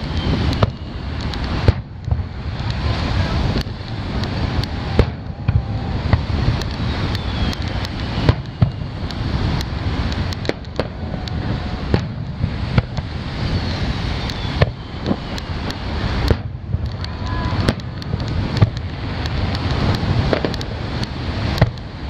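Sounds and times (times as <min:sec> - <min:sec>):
fireworks booming and cracking: 0:00.0 - 0:22.0
low rumble: 0:00.0 - 0:22.0.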